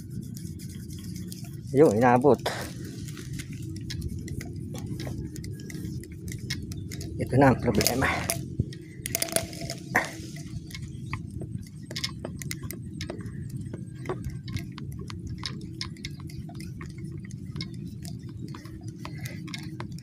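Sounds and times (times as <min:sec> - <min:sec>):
fishing gear clicking: 0:00.0 - 0:20.0.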